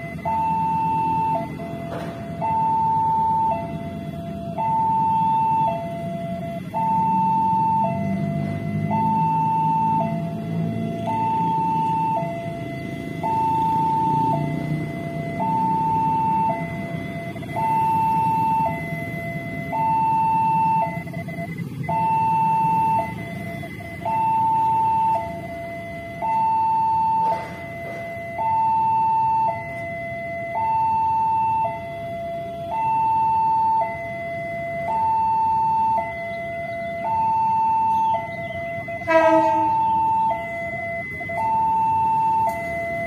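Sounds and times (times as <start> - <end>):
two-tone level crossing alarm: 0.0 - 43.0.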